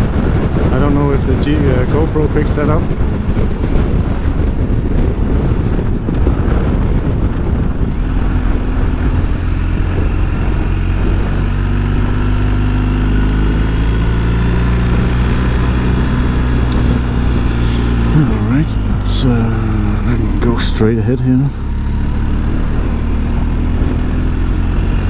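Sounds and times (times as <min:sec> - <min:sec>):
wind noise on microphone: 0:00.0 - 0:20.6, 0:21.2 - 0:25.0
motorcycle engine running: 0:00.0 - 0:25.0.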